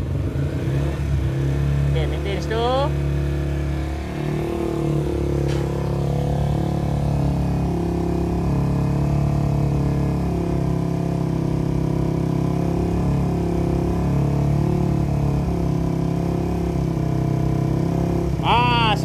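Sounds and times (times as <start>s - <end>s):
motorcycle engine revving steadily: 0.0s - 19.0s.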